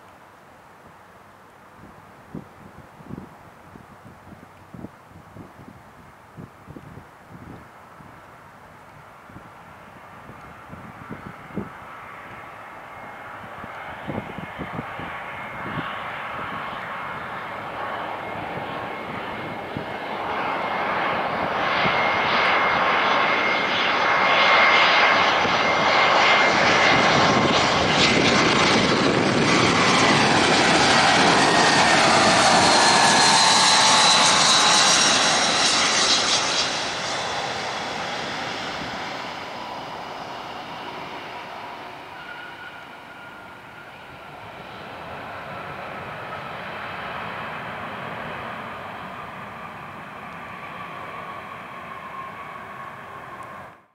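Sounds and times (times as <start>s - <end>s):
jet engines rumble and whine: 0.0s - 53.9s.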